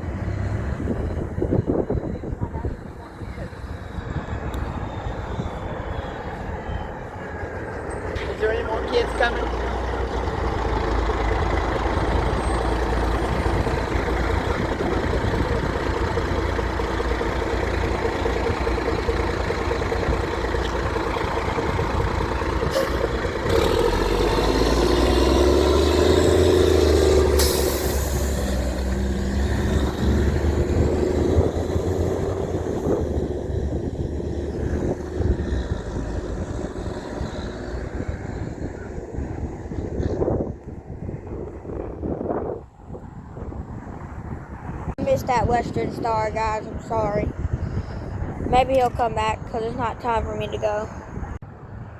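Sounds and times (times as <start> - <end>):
heavy trucks passing: 0.0 - 51.9.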